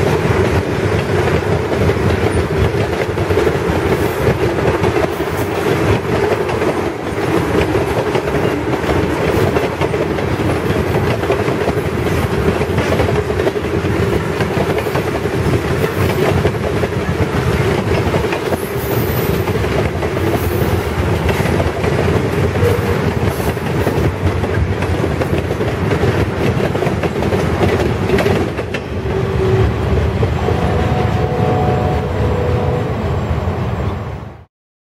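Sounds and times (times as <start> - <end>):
clickety-clack over rail joints: 0.0 - 30.6
steel wheels rumbling on rail: 0.0 - 34.5.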